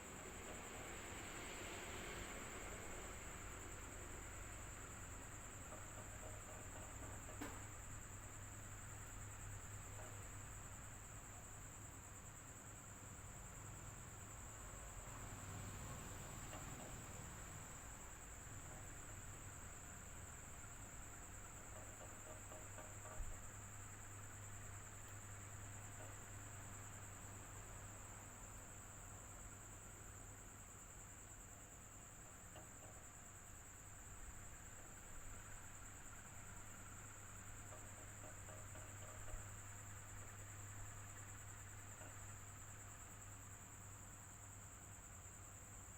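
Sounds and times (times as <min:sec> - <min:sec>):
electric fan running: 0:00.0 - 0:45.9.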